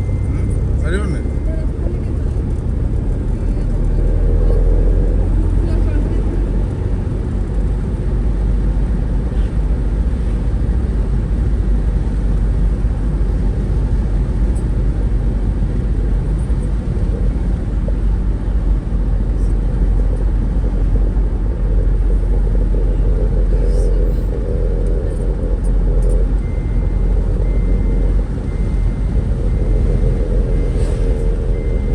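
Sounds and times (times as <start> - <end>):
vehicle rumbling: 0.0 - 31.9.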